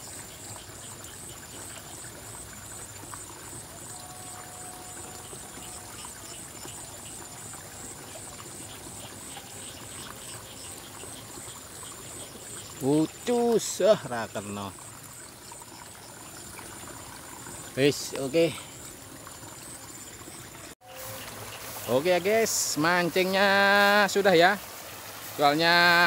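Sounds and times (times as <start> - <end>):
water trickling in a ditch: 0.0 - 26.0.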